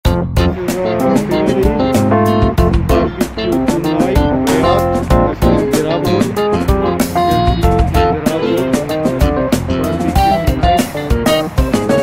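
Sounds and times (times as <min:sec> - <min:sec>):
plucked guitar melody: 0:00.1 - 0:12.0
steady beat: 0:00.1 - 0:12.0.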